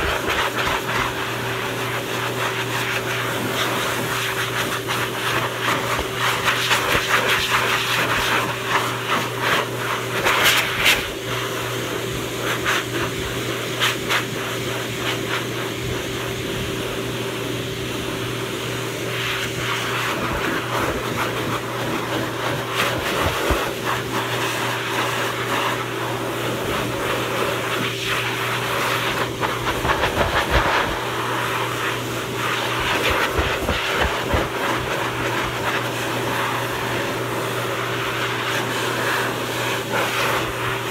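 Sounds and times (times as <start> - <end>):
dryer motor hum: 0.0 - 40.9
force dryer blowing air: 0.0 - 40.9.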